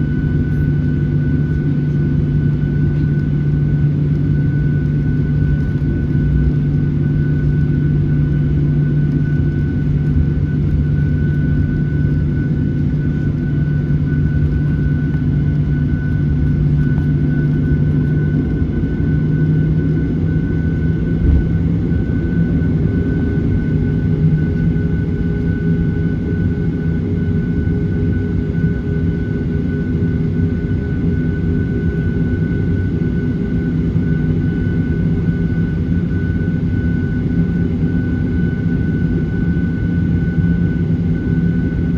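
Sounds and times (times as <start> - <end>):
jet cabin engine drone: 0.0 - 41.9.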